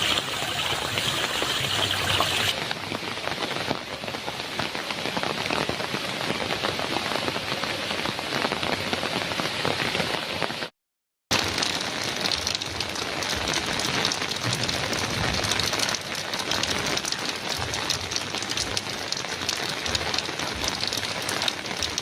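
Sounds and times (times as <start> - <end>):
heavy rain on a metal roof: 0.0 - 10.7, 11.3 - 22.0.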